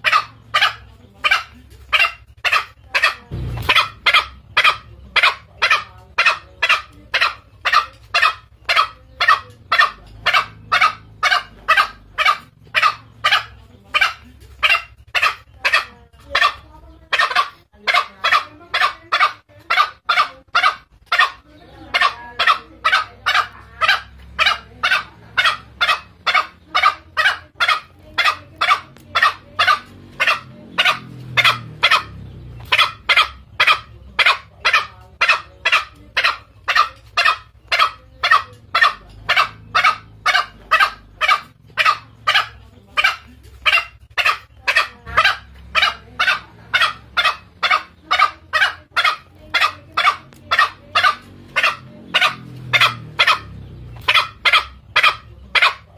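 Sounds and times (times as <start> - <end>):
junglefowl calls: 0.0 - 55.9.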